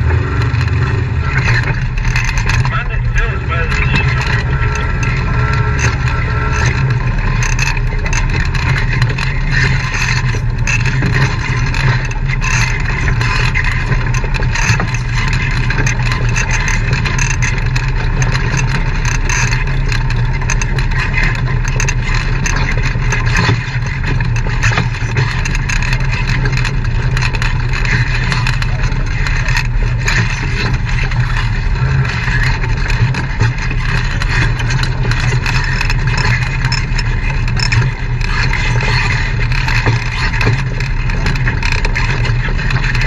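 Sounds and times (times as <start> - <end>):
knocks and rattles from bumps: 0.0 - 43.0
off-road vehicle engine running: 0.0 - 43.0.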